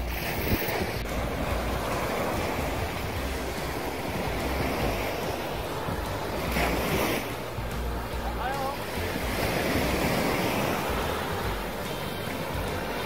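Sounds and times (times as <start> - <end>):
small waves breaking on sand: 0.0 - 13.0
wind buffeting microphone: 0.0 - 13.0.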